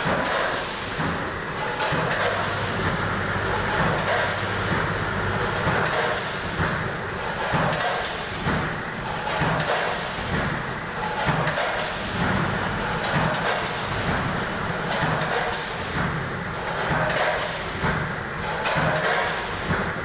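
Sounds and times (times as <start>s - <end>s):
packing machine running: 0.0s - 20.0s.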